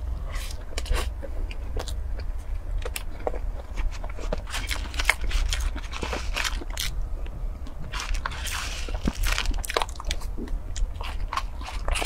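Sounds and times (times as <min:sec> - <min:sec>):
chewing and mouth sounds: 0:00.2 - 0:12.0.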